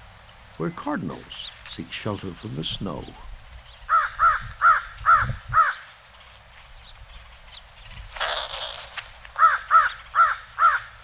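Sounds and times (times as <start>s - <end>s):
bird harsh calls: 0.6s - 11.0s.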